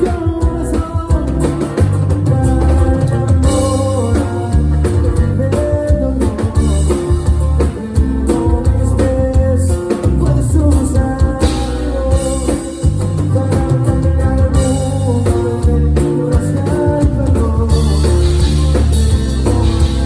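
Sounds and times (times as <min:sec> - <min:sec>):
bass guitar: 0:00.0 - 0:20.0
drums: 0:00.0 - 0:20.0
guitar: 0:00.0 - 0:20.0
live band playing: 0:00.0 - 0:20.0.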